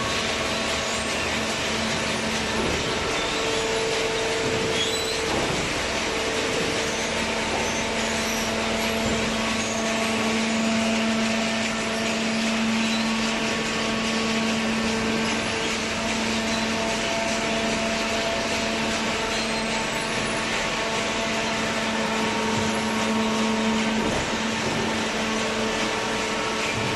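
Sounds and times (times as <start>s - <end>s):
electric motor and hydraulic pump hum: 0.0s - 26.9s.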